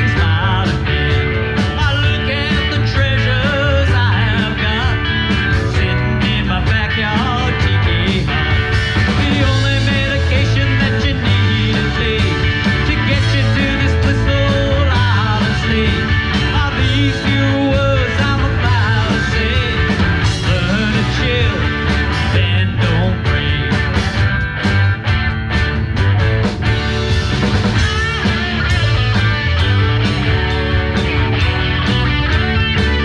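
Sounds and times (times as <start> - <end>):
lead guitar bending pitch: 0.0 - 33.0
live rock band playing: 0.0 - 33.0.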